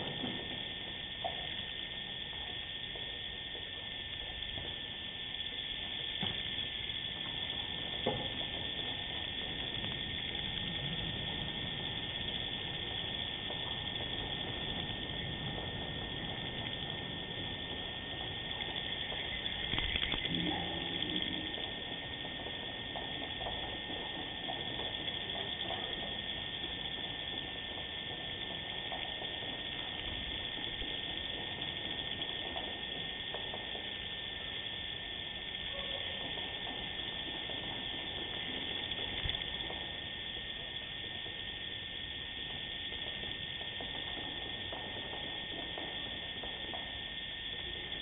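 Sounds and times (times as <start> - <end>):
faint steady whine: 0.0 - 48.0.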